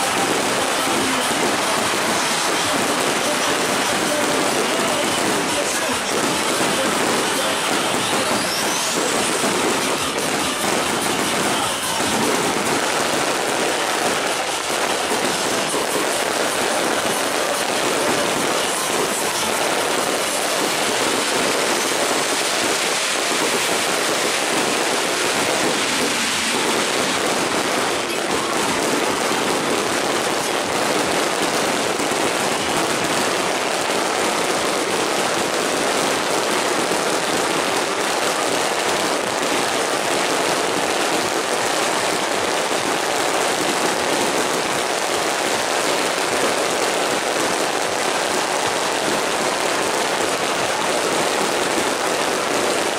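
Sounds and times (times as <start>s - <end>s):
fireworks crackling: 0.0s - 52.9s.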